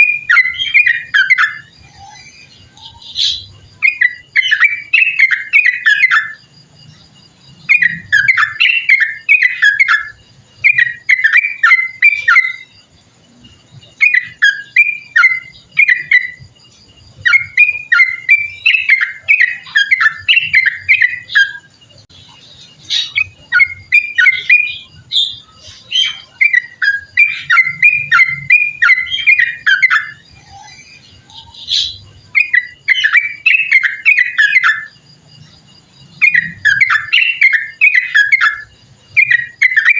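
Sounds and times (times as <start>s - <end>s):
bird singing warbling notes: 0.0s - 6.4s, 7.6s - 34.9s, 36.2s - 39.9s.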